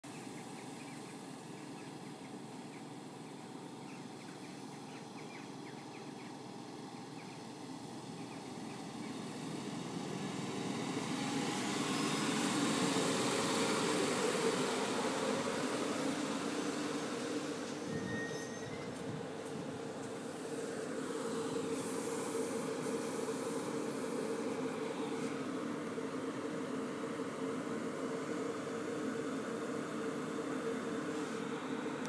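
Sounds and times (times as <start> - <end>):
electric train low hum: 0.1 - 32.0
train motor and rail noise: 0.1 - 32.0.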